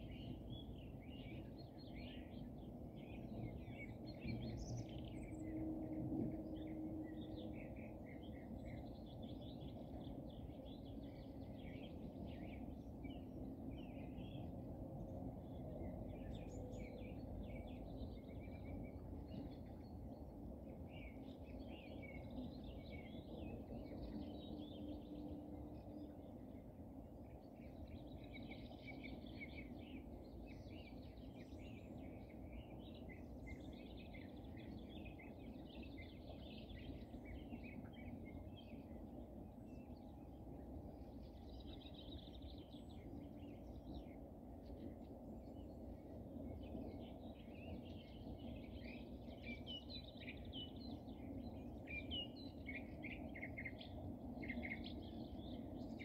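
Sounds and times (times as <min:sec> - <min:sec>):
low countryside background noise: 0:00.0 - 0:56.0
songbirds chirping and trilling: 0:00.0 - 0:56.0.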